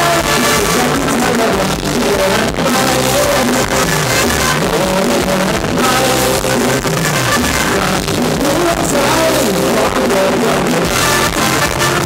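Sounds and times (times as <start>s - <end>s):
live dance music with guitar: 0.0s - 12.0s.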